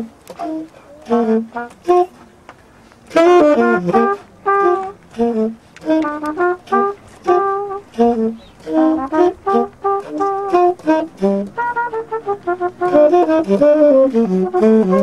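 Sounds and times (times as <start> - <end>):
tenor saxophone playing jazz: 0.0 - 15.0
trumpet playing jazz: 0.0 - 15.0.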